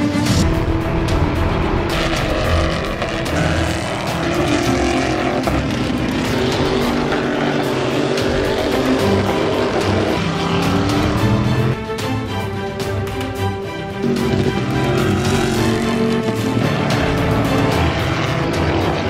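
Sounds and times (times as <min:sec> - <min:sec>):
background music: 0:00.0 - 0:19.0
race car engines at speed: 0:00.8 - 0:11.8, 0:12.8 - 0:19.0.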